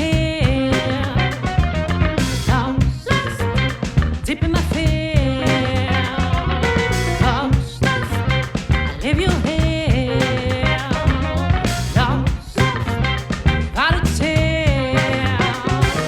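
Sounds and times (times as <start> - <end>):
heavy bass line: 0.0 - 16.0
soul-funk band playing: 0.0 - 16.0
steady drum beat: 0.0 - 16.0.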